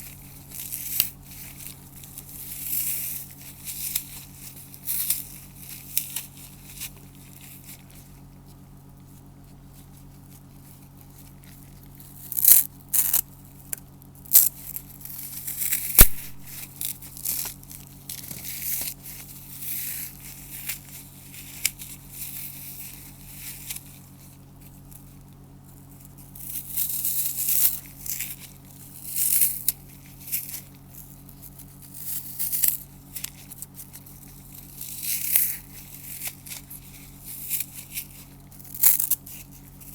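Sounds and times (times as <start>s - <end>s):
floral foam crunching: 0.0s - 13.7s, 14.3s - 39.9s.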